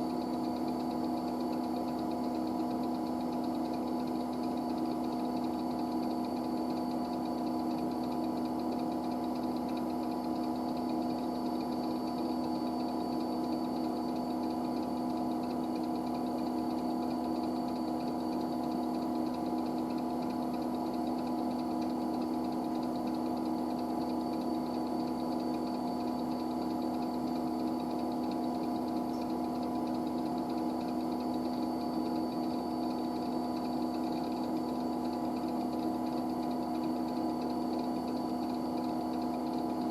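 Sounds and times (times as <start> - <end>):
computer humming with whining tones: 0.0 - 39.9.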